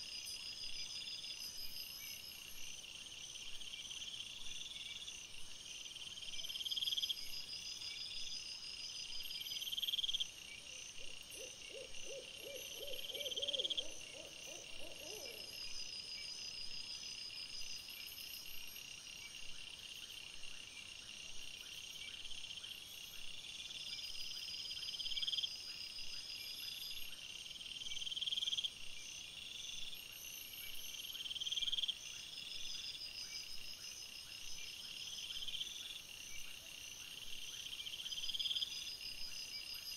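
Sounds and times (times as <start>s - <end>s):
lower rapid insect pulses: 0.0s - 39.9s
night insects trilling: 0.0s - 39.9s.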